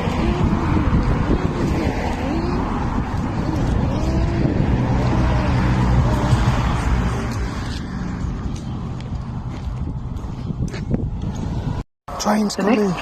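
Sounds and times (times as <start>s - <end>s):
low vehicle rumble: 0.0s - 11.8s
engine hum: 0.0s - 13.0s.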